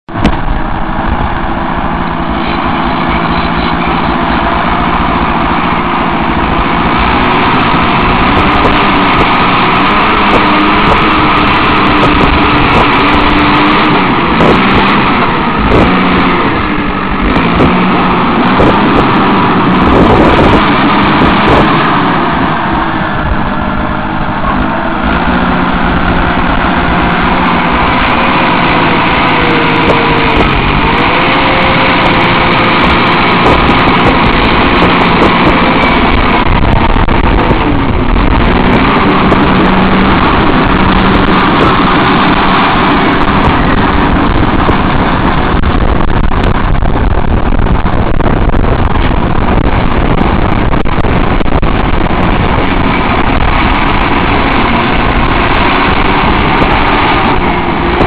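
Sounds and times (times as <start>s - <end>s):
bulldozer engine under load: 0.0s - 58.0s.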